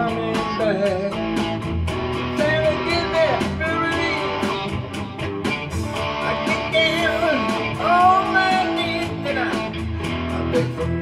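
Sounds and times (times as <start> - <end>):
person singing: 0.0 - 1.4, 2.2 - 4.9, 6.0 - 11.0
rock song on electric guitar: 0.0 - 11.0.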